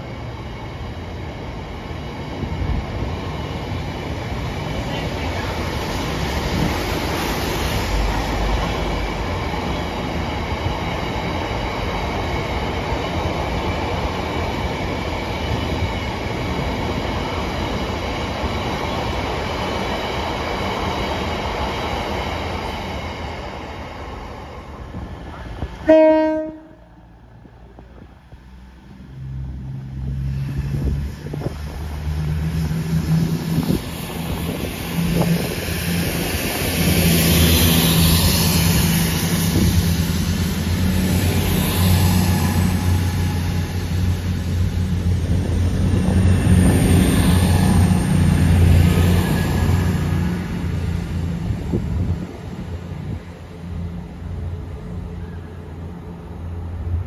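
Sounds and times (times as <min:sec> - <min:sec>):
diesel train passing: 0:00.0 - 0:57.0.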